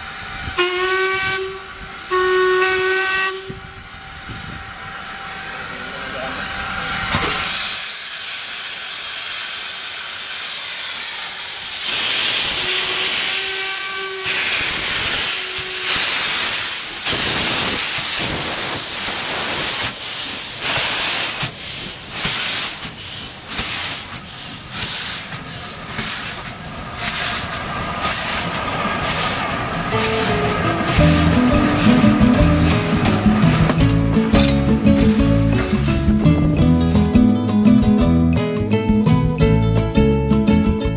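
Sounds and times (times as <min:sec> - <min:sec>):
steam hissing: 0:00.0 - 0:36.5
steam locomotive exhaust beats: 0:00.0 - 0:40.9.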